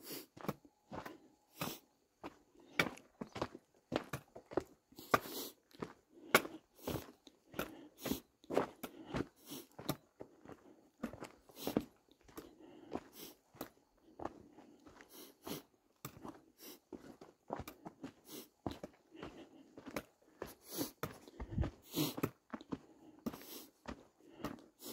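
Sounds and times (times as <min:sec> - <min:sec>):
footsteps crunching on dirt trail: 0:00.1 - 0:24.9.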